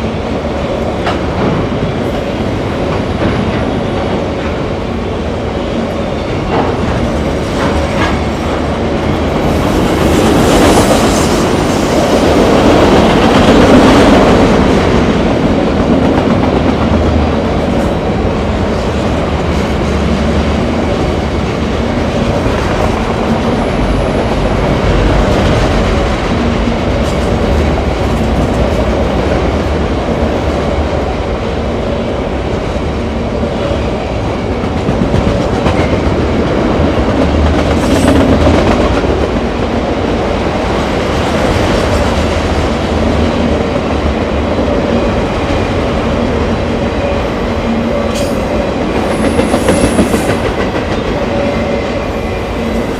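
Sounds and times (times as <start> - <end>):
train rolling past: 0.0 - 52.9.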